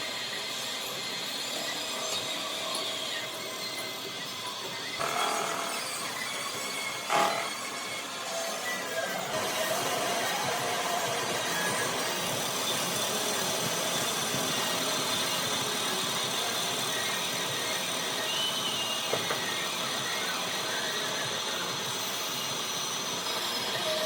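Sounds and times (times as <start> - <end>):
workshop machinery running: 0.0 - 24.0.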